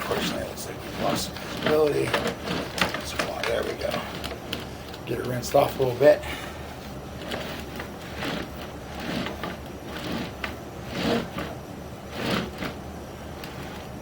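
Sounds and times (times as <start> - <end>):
cable rasping in drain pipe: 0.0 - 5.9, 7.2 - 12.8.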